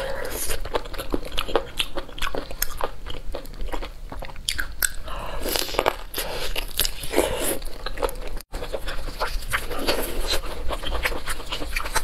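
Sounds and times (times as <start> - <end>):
chewing with crunches: 0.0 - 12.0.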